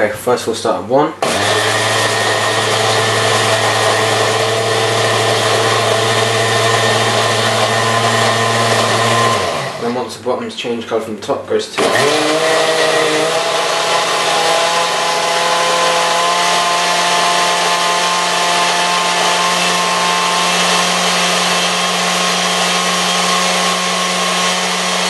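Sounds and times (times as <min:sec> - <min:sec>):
blender running: 0:01.2 - 0:10.0, 0:11.8 - 0:25.0.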